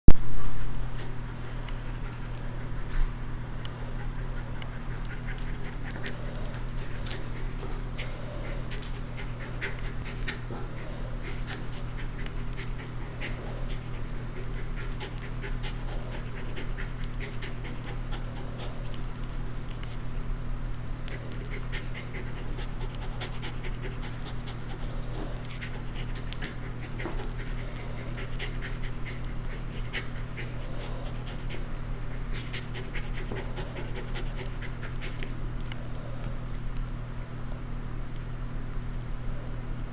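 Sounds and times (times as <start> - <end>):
steady low hum: 0.1 - 39.9
dog panting: 1.0 - 20.0, 21.0 - 36.4.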